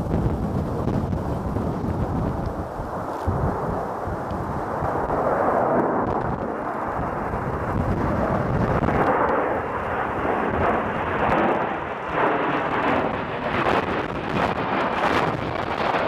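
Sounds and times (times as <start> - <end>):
jet aircraft flying overhead: 0.0 - 16.0.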